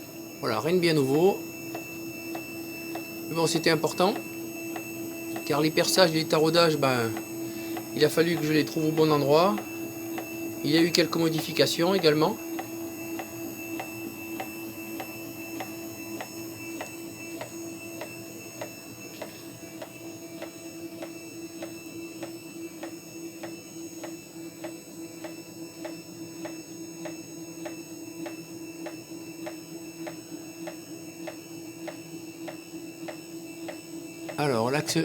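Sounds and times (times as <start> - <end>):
stepper motor whine: 0.0 - 35.0.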